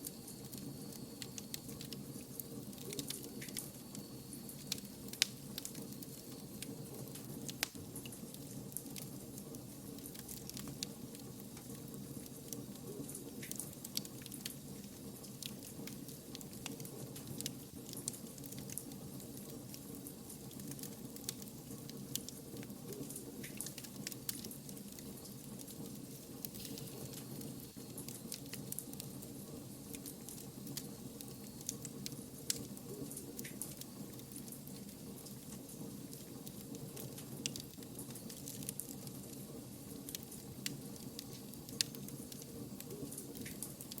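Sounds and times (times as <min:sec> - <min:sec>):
fire crackles and pops: 0:00.0 - 0:44.0
wood fire hissing: 0:00.0 - 0:44.0.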